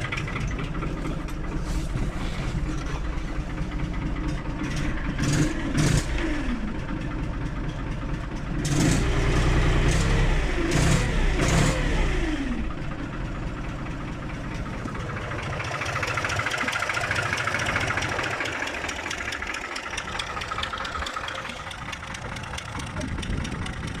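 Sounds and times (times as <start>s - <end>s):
engine knocks: 0.0s - 24.0s
tractor diesel engine running: 0.0s - 24.0s.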